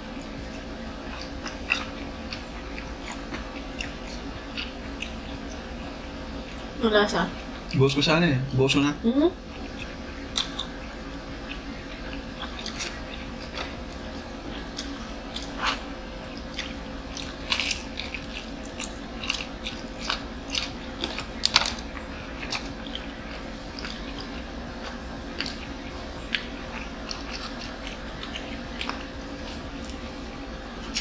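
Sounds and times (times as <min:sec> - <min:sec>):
crunching and chewing food: 0:00.0 - 0:31.0
faint steady hum: 0:00.0 - 0:31.0.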